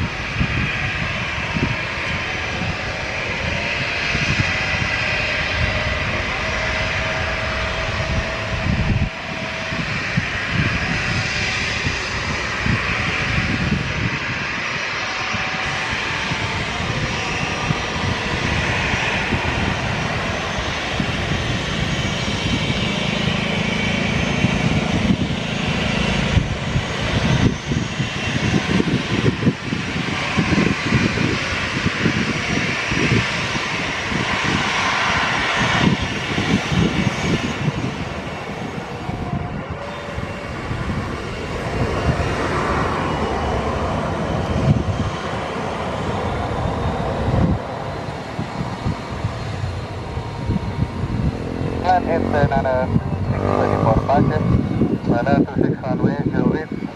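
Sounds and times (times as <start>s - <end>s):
jet engines running loud: 0.0s - 56.9s.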